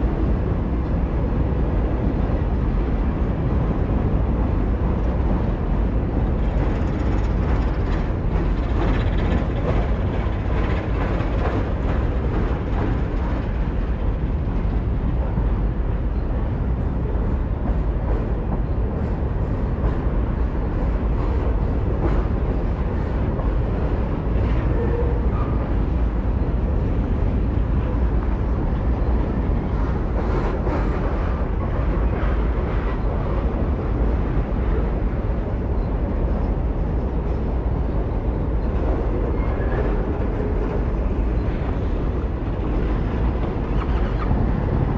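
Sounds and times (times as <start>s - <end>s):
wind rushing on microphone: 0.0s - 44.9s.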